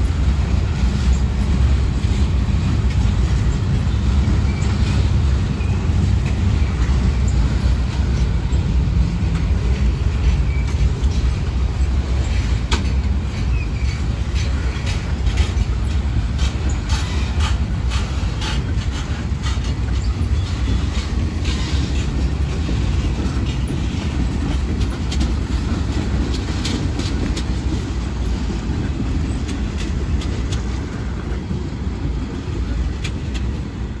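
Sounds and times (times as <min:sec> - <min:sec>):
freight train rumbling past: 0:00.0 - 0:34.0
wheels clicking over rail joints: 0:00.0 - 0:34.0.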